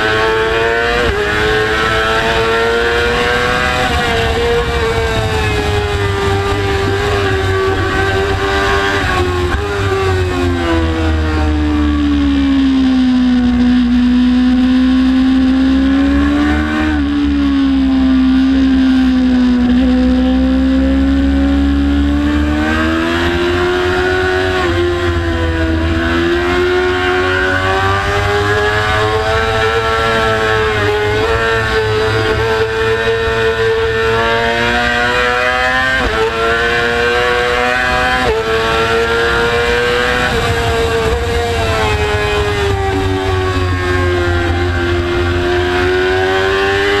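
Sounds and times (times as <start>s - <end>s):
motorcycle engine running hard: 0.0s - 47.0s.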